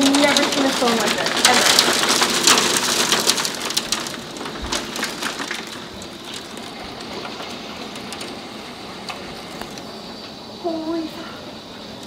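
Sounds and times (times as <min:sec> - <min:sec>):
hail and rain pelting: 0:00.0 - 0:12.0.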